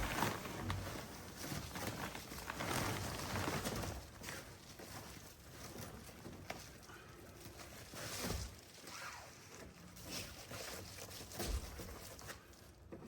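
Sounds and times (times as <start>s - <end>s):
fabric blind rustling: 0.0s - 12.8s.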